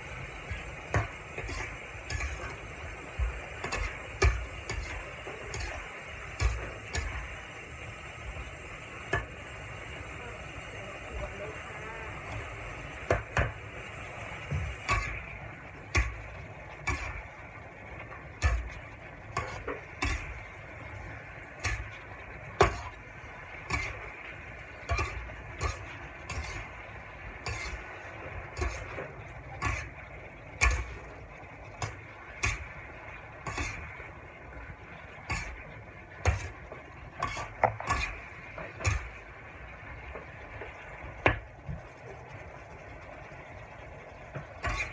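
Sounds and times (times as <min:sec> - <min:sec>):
frying hiss: 0:00.0 - 0:44.9.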